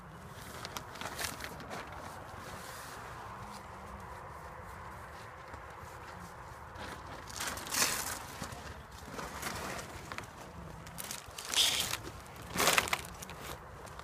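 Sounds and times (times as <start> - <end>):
rustling handling noises: 0.2 - 14.0.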